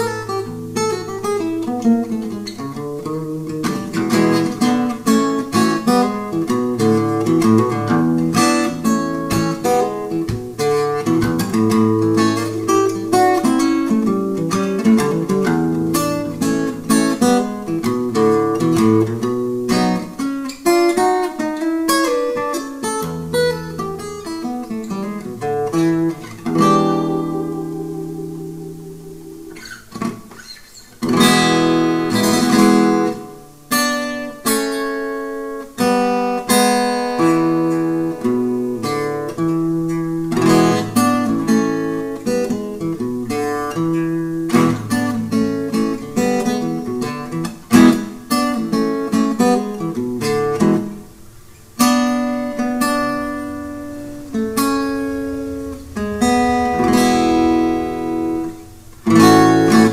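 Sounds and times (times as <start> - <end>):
acoustic guitar blues picking: 0.0 - 59.9.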